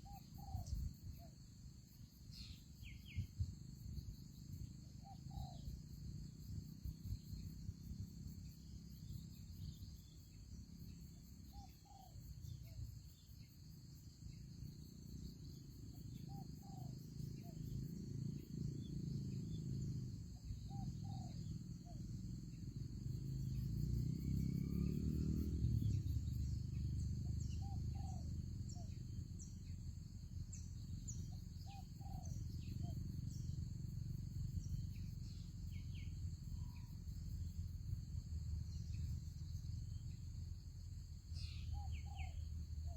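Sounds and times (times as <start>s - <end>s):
high insect drone: 0.0s - 42.9s.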